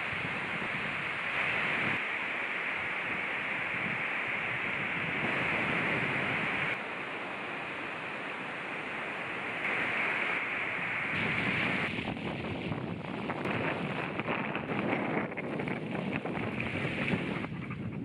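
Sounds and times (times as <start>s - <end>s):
wind on microphone: 0.0s - 6.9s, 8.8s - 18.0s
breaking surf hissing: 0.0s - 17.8s.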